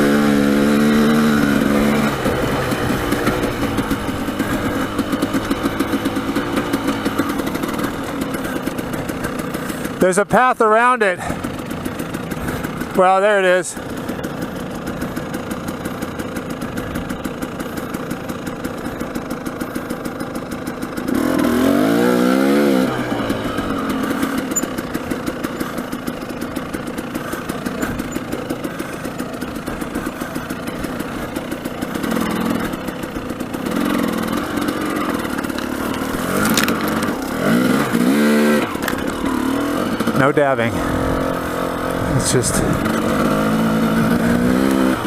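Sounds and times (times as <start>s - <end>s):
dirt bike engine idling and revving: 0.0s - 45.0s.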